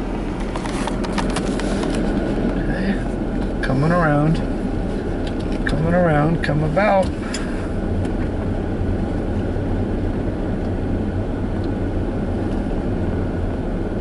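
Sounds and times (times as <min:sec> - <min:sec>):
tyre and road rumble: 0:00.0 - 0:14.0.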